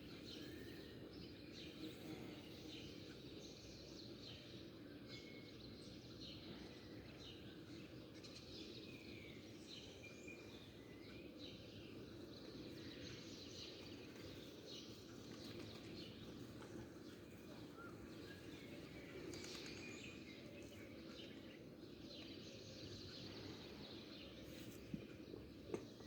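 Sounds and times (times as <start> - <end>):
small birds chirping: 0.0 - 26.0
steady low background noise: 0.0 - 26.0.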